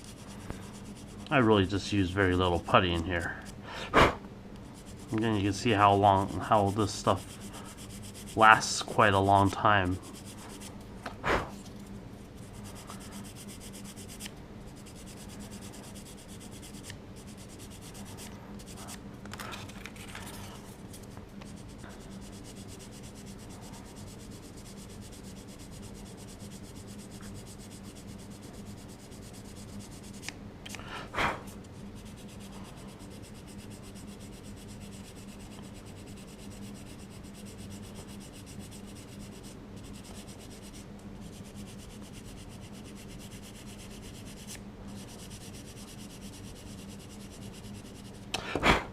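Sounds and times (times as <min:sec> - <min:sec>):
sanding stick rubbing: 0:00.0 - 0:01.7, 0:04.8 - 0:10.7, 0:12.4 - 0:19.0, 0:20.0 - 0:30.3, 0:31.5 - 0:48.3
steady low hum: 0:00.0 - 0:48.9.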